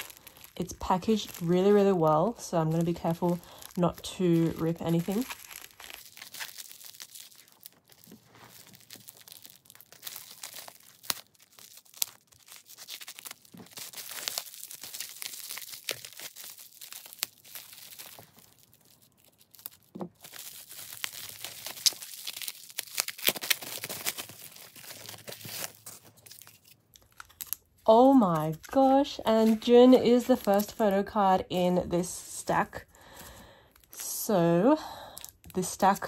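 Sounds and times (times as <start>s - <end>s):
bubble wrap crinkling and tearing: 0.0s - 36.0s.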